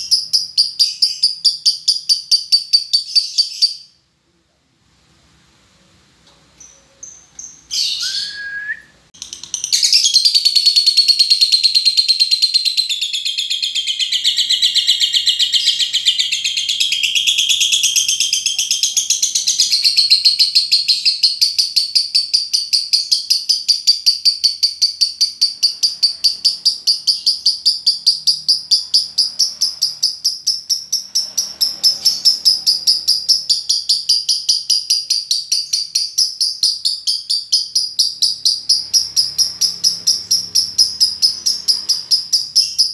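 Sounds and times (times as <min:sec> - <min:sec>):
bird chirp: 0:00.0 - 0:04.1, 0:06.3 - 0:42.9.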